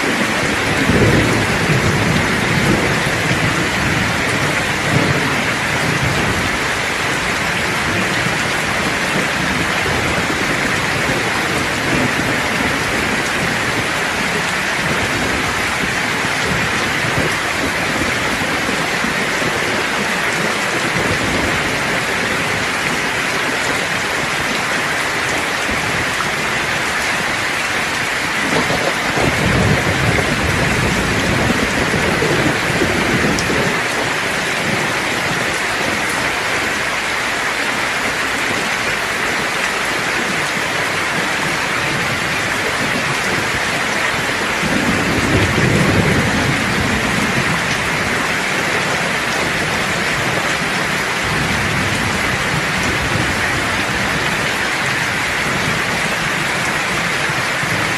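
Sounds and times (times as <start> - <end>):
rolling thunder: 0.0 - 36.9, 40.0 - 57.9
heavy rain falling: 0.0 - 57.9.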